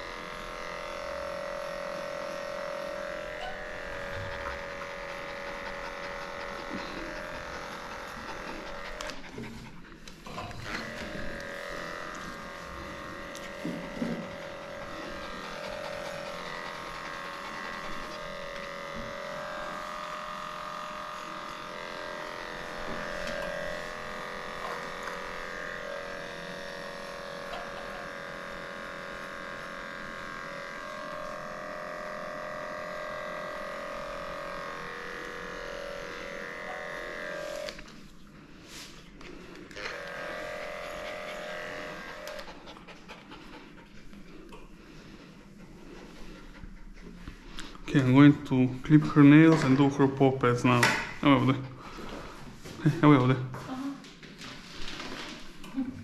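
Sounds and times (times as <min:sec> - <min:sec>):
electric clippers humming: 0:00.0 - 0:54.1.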